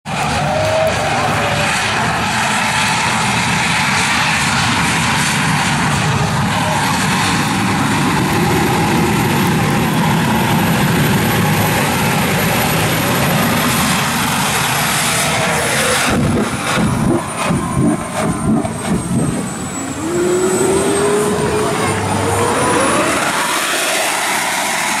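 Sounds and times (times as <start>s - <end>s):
turbine engine rushing: 0.1s - 25.0s.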